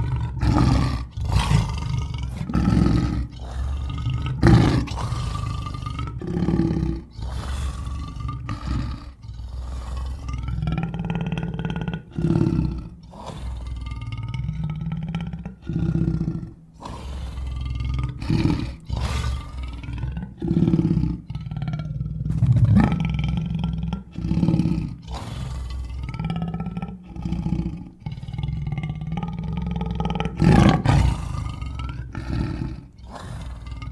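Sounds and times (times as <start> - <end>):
lion roaring and growling: 0.0 - 33.9.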